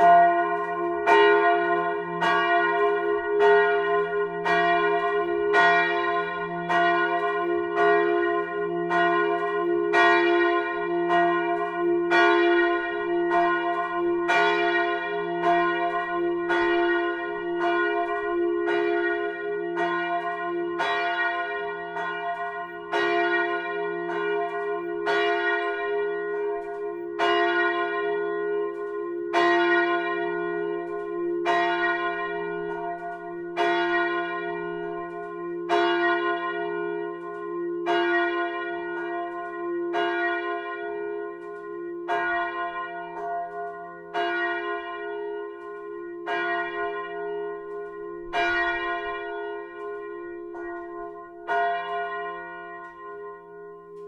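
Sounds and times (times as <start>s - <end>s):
church bell ringing: 0.0s - 54.0s.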